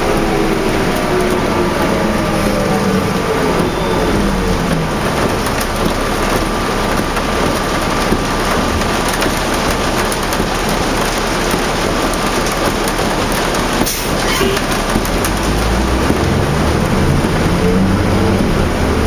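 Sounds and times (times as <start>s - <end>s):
diesel engine and road noise: 0.0s - 19.0s
heavy rain on a bus: 0.0s - 19.0s.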